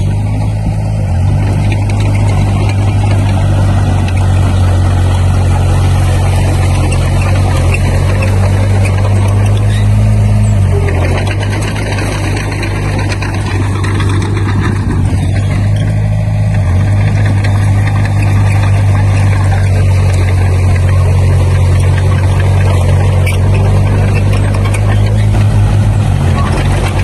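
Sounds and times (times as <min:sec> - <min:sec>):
diesel engine droning: 0:00.0 - 0:27.0.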